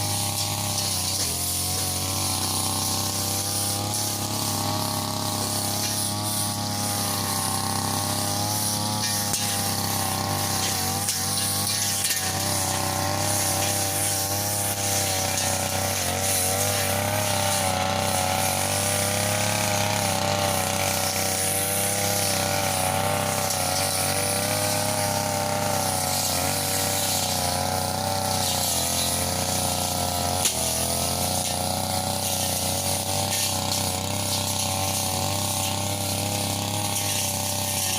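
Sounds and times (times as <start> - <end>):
brush cutter engine running: 0.0 - 37.9.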